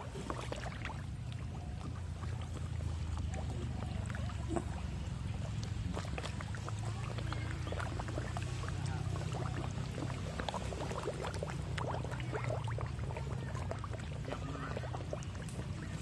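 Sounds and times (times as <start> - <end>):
fish splashing and slurping: 0.0 - 16.0.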